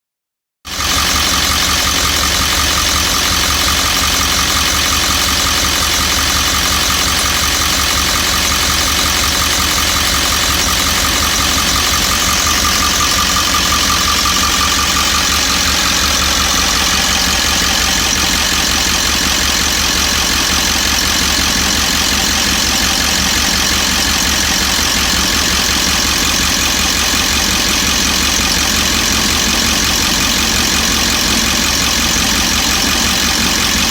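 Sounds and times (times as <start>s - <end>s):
diesel engine idling: 0.7s - 33.9s
fast regular engine knock: 0.7s - 33.9s.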